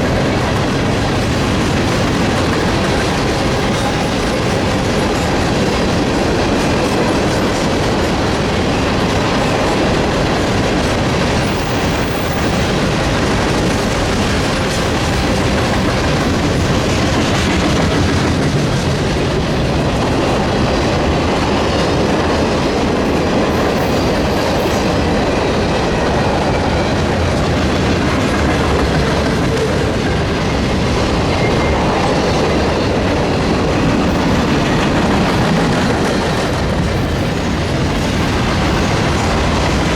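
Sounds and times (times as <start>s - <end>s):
freight train rolling past: 0.0s - 39.9s
wheels clacking on rail joints: 0.0s - 39.9s.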